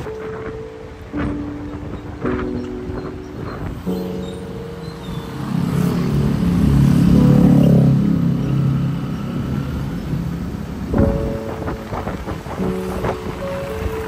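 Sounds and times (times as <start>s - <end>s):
scooter and car engines: 0.0s - 14.0s.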